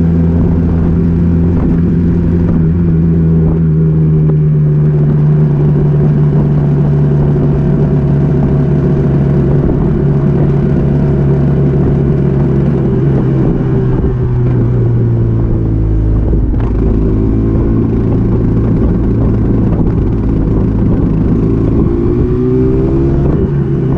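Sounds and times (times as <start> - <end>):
two-stroke motorcycle engine running: 0.0 - 23.9.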